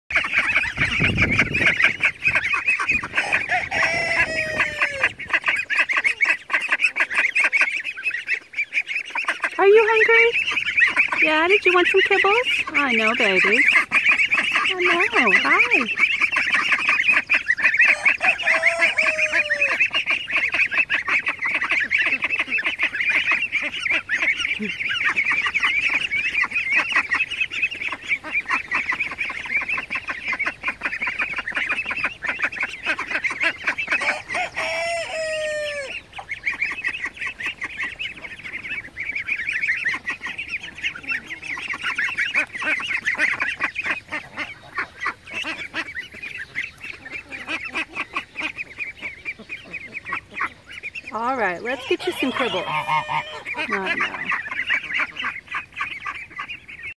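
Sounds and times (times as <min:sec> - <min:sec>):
ducklings peeping: 0:00.1 - 0:56.9.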